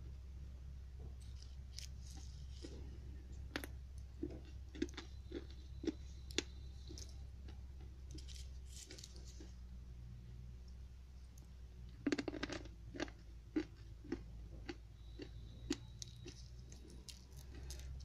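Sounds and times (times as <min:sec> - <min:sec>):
steady low hum: 0:00.0 - 0:18.0
crunchy chewing: 0:01.0 - 0:09.8, 0:11.2 - 0:18.0.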